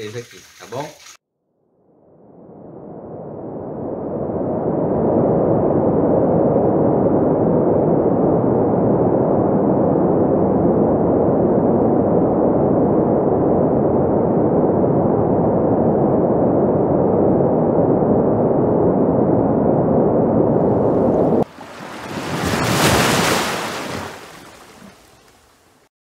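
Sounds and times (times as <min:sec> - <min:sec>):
muffled underwater rush: 0:02.1 - 0:25.8.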